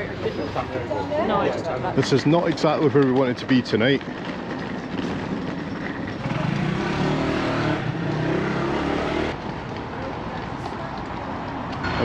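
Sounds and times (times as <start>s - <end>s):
traffic background noise: 0.0s - 12.0s.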